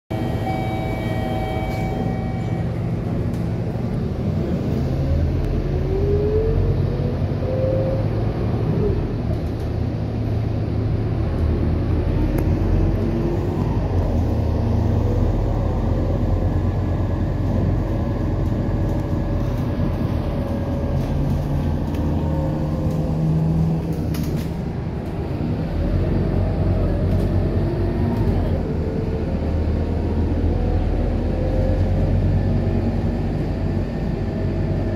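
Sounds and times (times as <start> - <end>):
bus engine drone with whine: 0.1 - 34.9.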